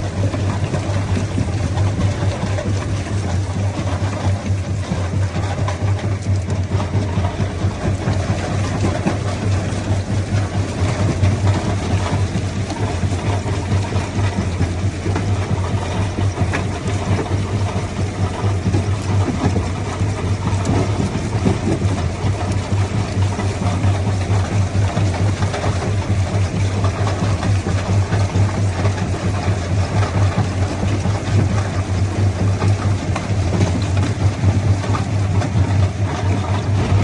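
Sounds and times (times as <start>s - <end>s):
jaw crusher machine hum: 0.0s - 37.0s.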